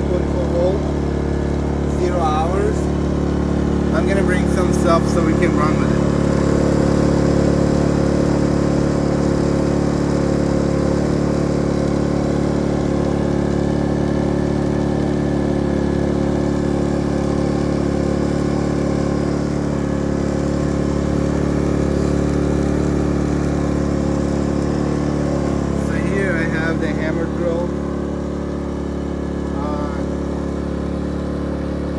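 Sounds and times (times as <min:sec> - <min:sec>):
generator engine hum: 0:00.0 - 0:31.9.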